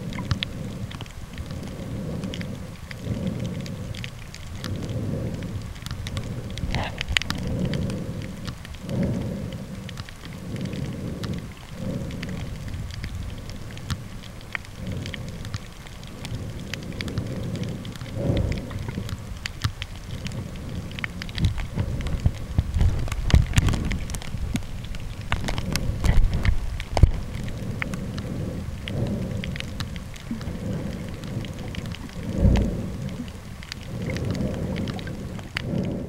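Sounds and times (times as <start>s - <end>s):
dense crackle of clicks: 0.0s - 36.0s
muffled rumbling water surges: 0.0s - 36.0s.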